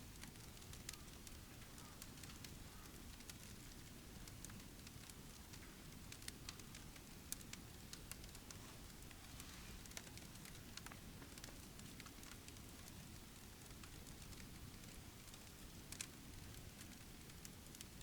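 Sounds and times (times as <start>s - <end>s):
low steady background noise: 0.0s - 18.0s
wood fire crackling: 0.0s - 18.0s.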